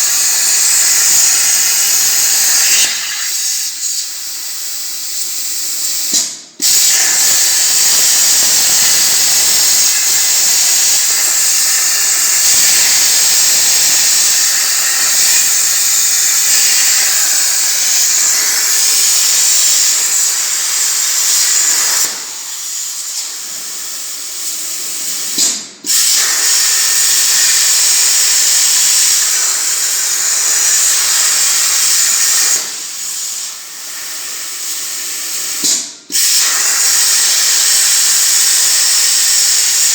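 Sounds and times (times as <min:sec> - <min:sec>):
plasma torch cutting sheet metal: 0:00.0 - 0:04.4, 0:05.1 - 0:33.6, 0:34.5 - 0:39.9.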